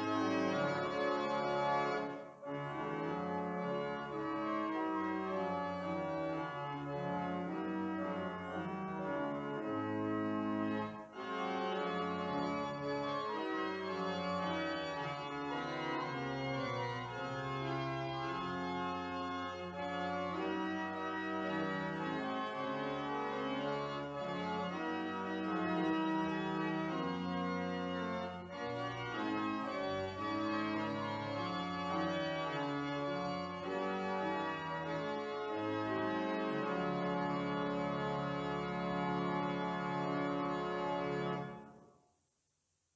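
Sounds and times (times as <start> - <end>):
organ playing slow chords: 0.0 - 41.8.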